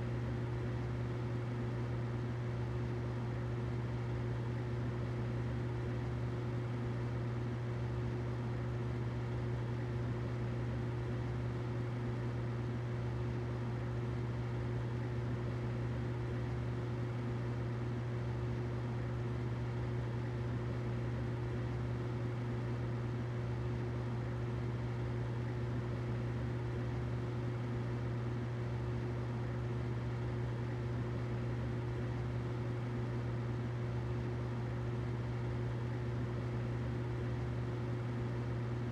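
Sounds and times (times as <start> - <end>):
humidifier running: 0.0 - 38.9.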